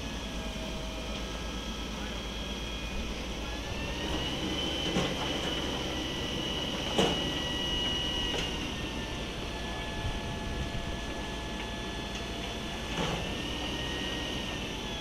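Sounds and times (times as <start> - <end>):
high-pitched hydraulic whine: 0.0 - 15.0.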